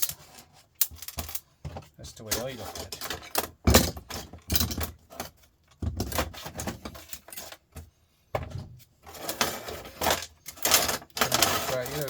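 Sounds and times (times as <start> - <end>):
metal scraps clicking and clattering: 0.0 - 7.9, 9.0 - 12.0.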